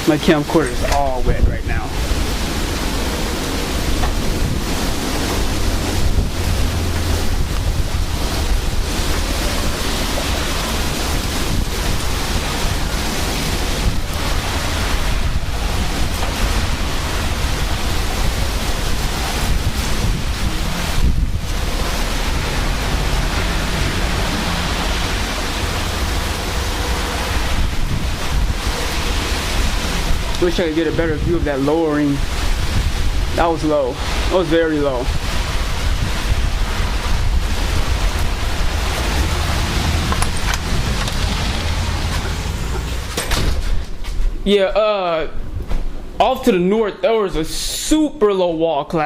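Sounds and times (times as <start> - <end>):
wind buffeting microphone: 0.0 - 44.5
low rumble: 0.6 - 31.6, 35.0 - 44.4.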